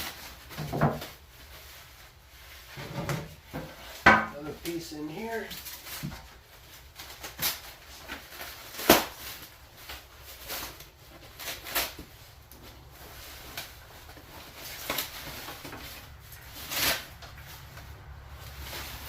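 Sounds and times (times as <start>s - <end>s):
knocks scrapes and rustles: 0.0s - 19.0s.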